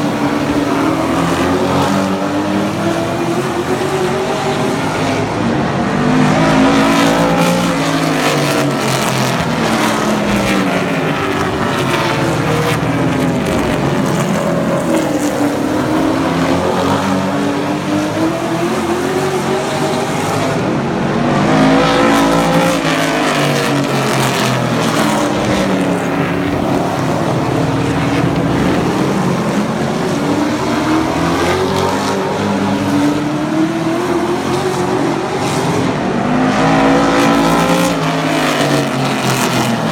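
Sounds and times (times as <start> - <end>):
race truck engines: 0.0 - 39.9.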